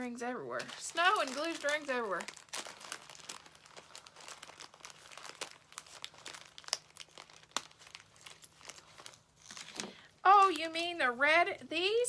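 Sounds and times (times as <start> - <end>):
plastic crinkling: 0.5 - 11.1.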